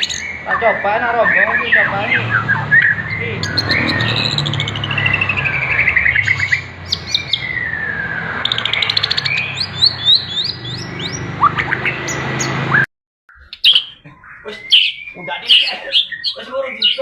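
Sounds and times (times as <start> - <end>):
songbirds whistling and chipping: 0.0 - 17.0.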